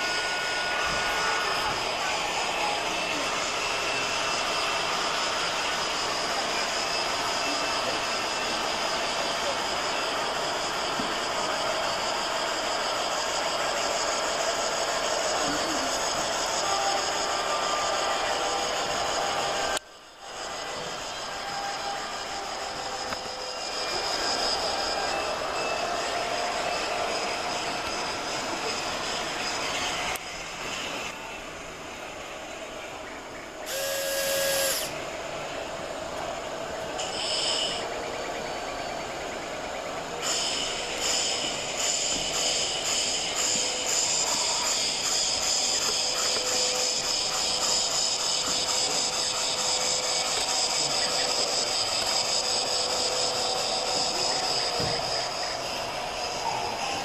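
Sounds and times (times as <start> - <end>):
locomotive whistle with hiss: 0.0 - 31.1, 33.6 - 35.0, 37.0 - 38.9, 40.2 - 57.0
model trains whirring: 0.0 - 57.0.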